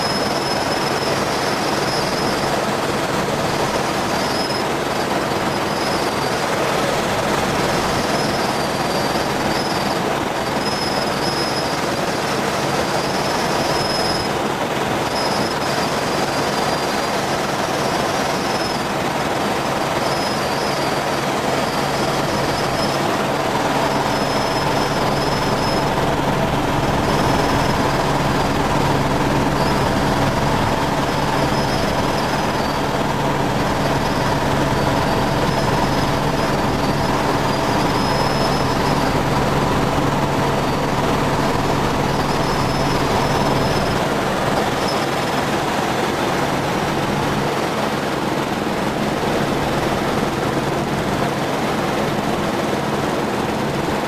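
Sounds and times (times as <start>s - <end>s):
high whine: 0.0s - 51.5s
helicopter engine and rotor drone: 0.0s - 54.0s.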